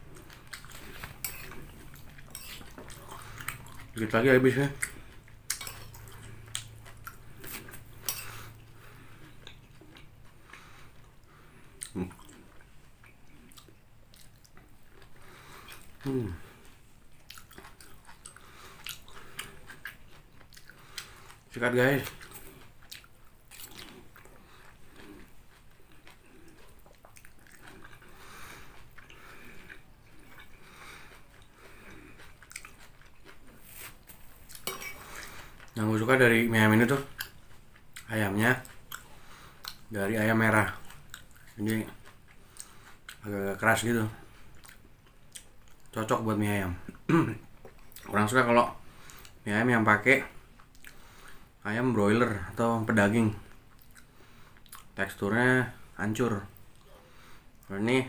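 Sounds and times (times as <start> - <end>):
person chewing noodles: 0.0 - 40.0, 40.6 - 43.3, 44.1 - 46.0, 46.9 - 48.2, 48.8 - 49.4, 50.3 - 51.6, 53.4 - 55.0, 55.8 - 57.7.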